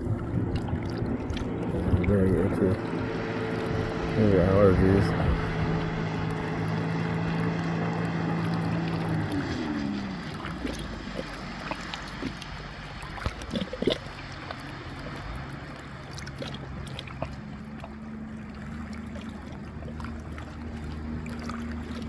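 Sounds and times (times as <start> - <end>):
boat motor humming: 0.0 - 22.0
river water moving: 0.0 - 22.0.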